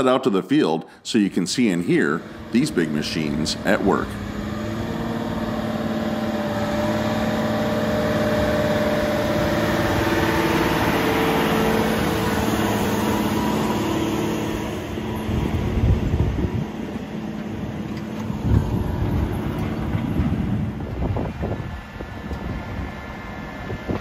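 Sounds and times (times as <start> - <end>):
tractor diesel engine passing: 1.2 - 24.0
towed implement rattling and clunking: 2.2 - 24.0.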